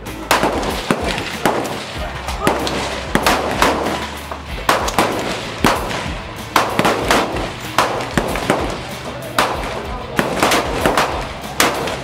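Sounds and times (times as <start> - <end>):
rifle shots: 0.2 - 12.0.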